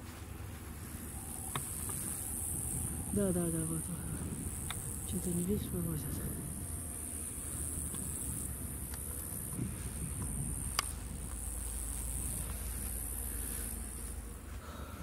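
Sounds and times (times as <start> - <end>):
low rumble: 0.0 - 14.9
insects chirring: 0.0 - 15.0.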